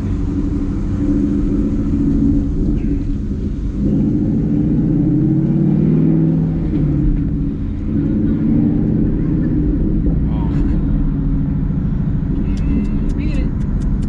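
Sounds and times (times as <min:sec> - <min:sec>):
car engine exhaust note: 0:00.0 - 0:14.0.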